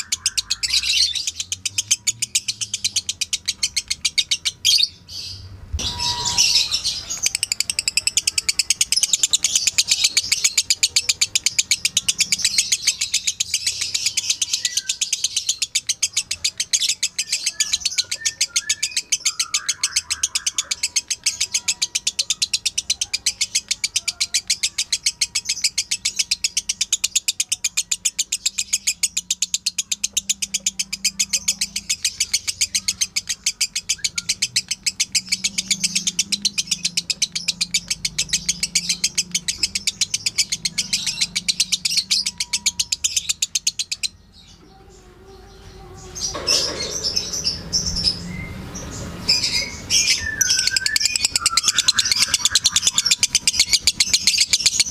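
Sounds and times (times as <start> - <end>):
lovebird chirping: 0.0 - 54.9.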